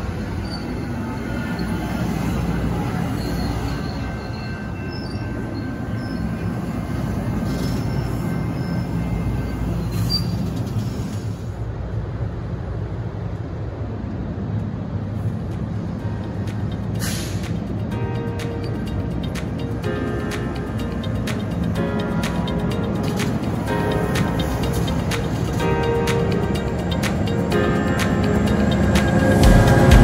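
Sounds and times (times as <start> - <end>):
high wheel squeals: 0.0 - 11.6, 16.0 - 30.0
train wheels rumbling on rails: 0.0 - 30.0.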